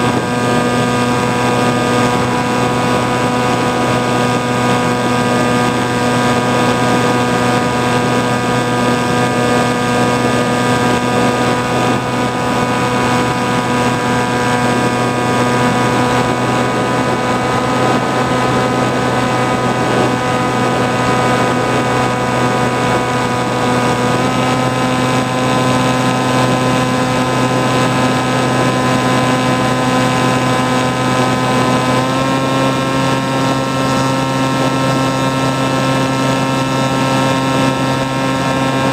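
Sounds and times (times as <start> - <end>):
propeller motor whine: 0.0 - 38.9
rush of wind noise: 0.0 - 38.9.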